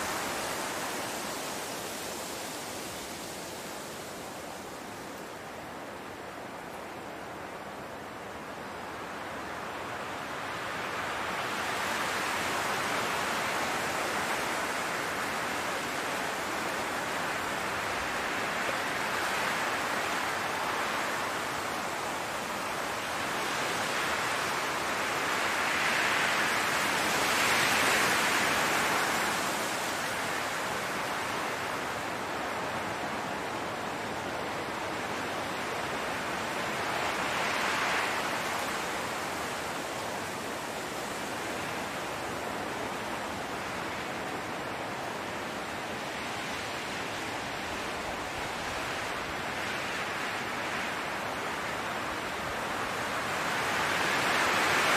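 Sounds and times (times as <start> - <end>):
wind blowing across grass: 0.0 - 54.9.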